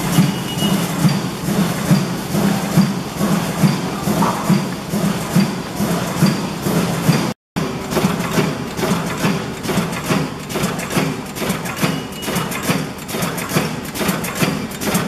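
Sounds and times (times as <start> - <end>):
machine clattering: 0.0 - 15.0.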